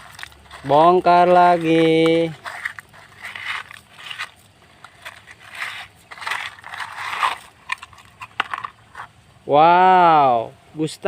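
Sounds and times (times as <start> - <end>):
plastic toys rattling and scraping: 0.0 - 9.2.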